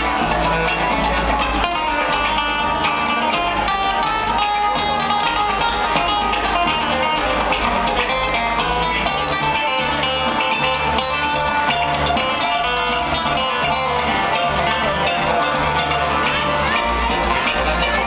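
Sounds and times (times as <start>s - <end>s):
acoustic guitar plucked: 0.0s - 18.0s
banjo: 0.0s - 18.0s
mandolin: 0.0s - 18.0s
upright bass: 0.0s - 18.0s.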